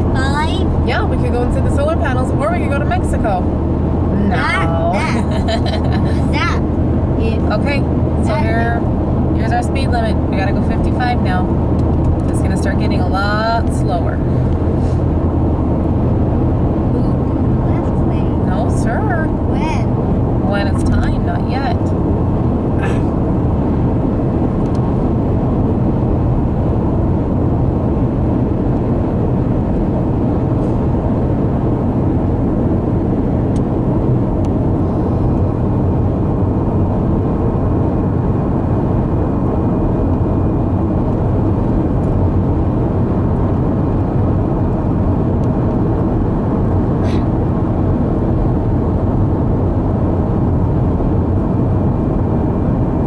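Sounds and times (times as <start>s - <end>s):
car interior road rumble: 0.0s - 53.0s.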